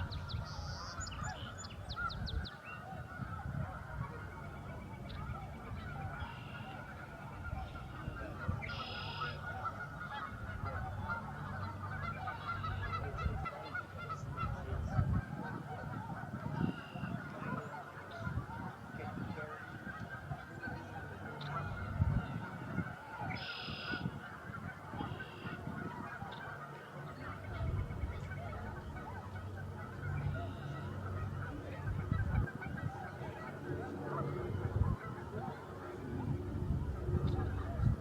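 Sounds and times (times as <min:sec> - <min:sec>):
flock of geese honking: 0:00.0 - 0:38.0
single loud goose calls: 0:00.0 - 0:38.0.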